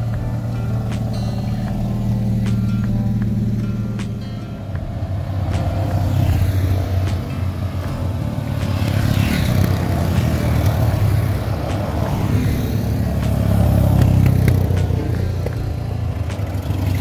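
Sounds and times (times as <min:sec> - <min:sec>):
utility vehicle engine droning: 0:00.0 - 0:17.0.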